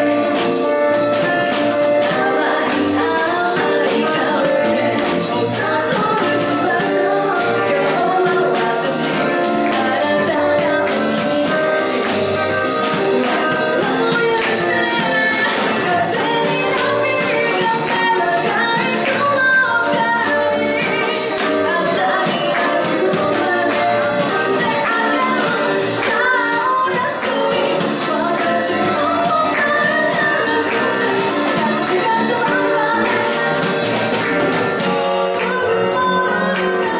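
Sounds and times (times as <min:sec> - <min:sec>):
band playing: 0:00.0 - 0:36.9
woman singing into microphone: 0:00.0 - 0:36.9.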